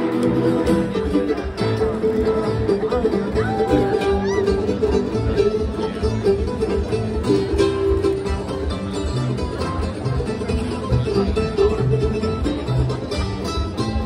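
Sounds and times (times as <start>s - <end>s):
bluegrass string band playing: 0.0s - 14.0s.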